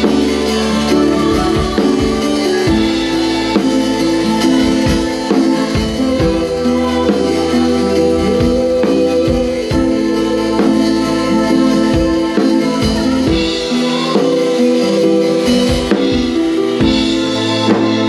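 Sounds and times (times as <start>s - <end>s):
music with drum-kit beat: 0.0s - 18.0s.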